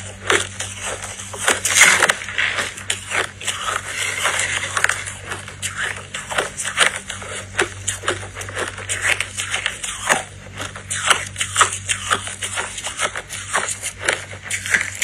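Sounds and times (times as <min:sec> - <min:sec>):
crushed ice being chewed: 0:00.0 - 0:15.0.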